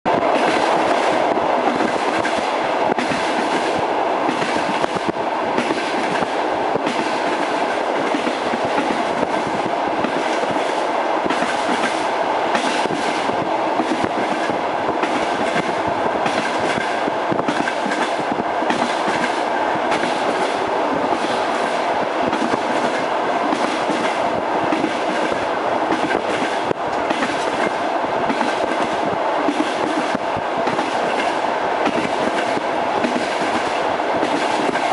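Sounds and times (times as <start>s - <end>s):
train wheels clattering: 0.1s - 34.9s.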